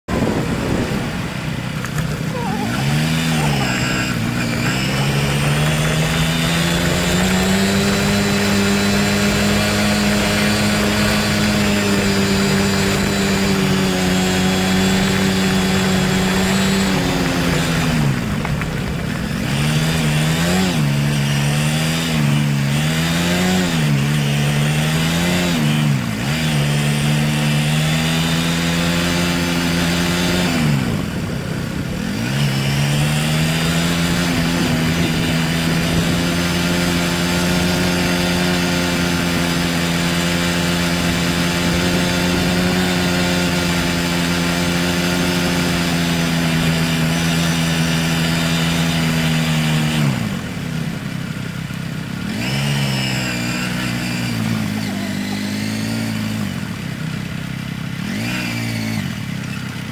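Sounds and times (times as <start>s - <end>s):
steady rushing noise: 0.0s - 50.4s
motorcycle engine revving: 0.0s - 59.9s.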